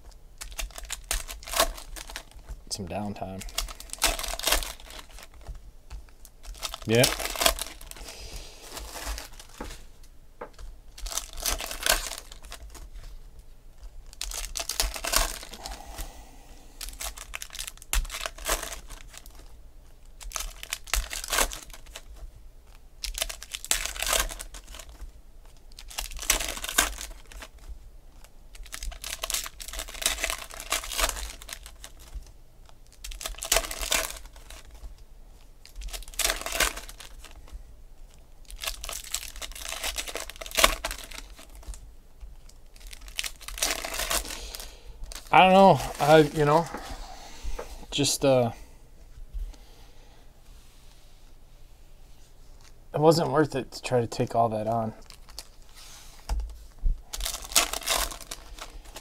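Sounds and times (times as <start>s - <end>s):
foil wrappers tearing and crinkling: 0.0s - 9.9s, 10.6s - 13.2s, 13.8s - 16.1s, 16.7s - 46.9s, 54.3s - 59.0s.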